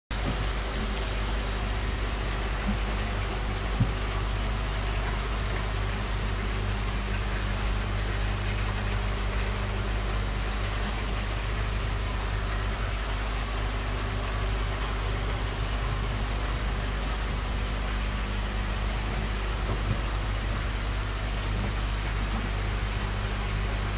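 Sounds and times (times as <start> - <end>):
machine hum with buzz and hiss: 0.1 - 23.9.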